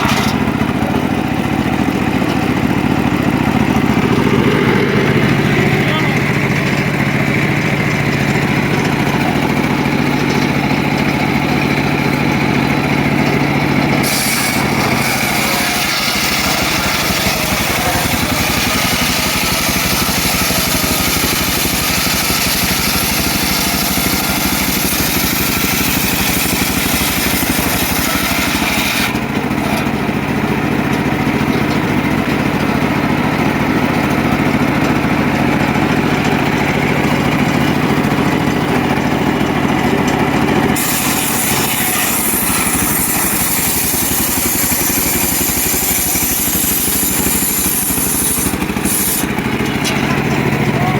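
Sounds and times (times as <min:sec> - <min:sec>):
saw blade cutting log: 0:00.0 - 0:50.7
engine-driven sawmill running: 0:00.0 - 0:50.9.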